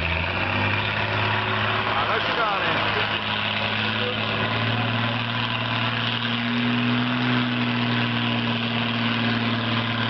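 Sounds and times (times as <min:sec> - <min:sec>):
vehicle engine under load: 0:00.0 - 0:10.0.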